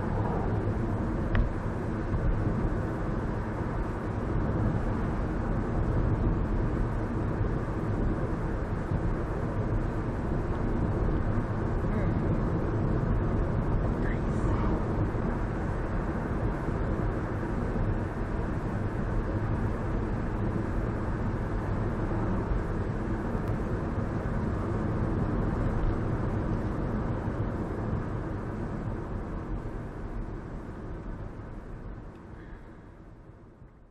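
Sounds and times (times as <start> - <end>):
car road and engine noise: 0.0 - 33.9.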